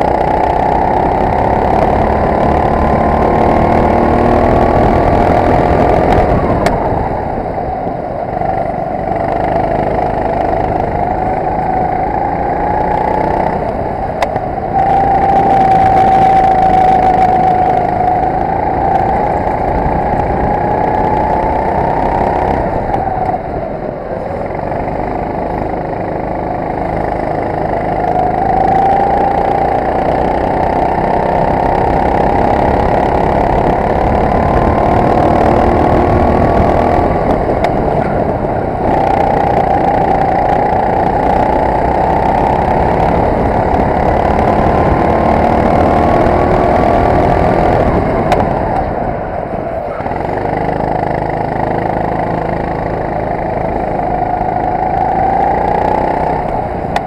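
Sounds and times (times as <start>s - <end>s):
racing kart engine at full throttle: 0.0s - 57.0s.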